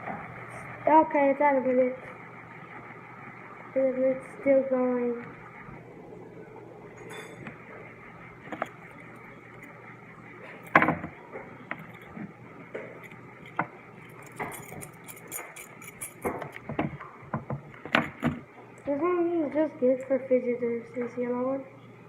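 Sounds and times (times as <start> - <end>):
faint room hum: 0.0 - 22.0.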